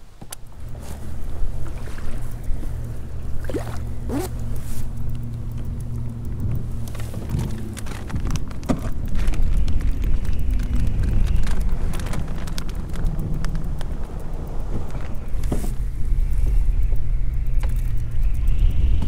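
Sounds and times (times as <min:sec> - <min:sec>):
light clicks and knocks: 0:00.0 - 0:19.0
motorboat engine drone: 0:00.0 - 0:19.0.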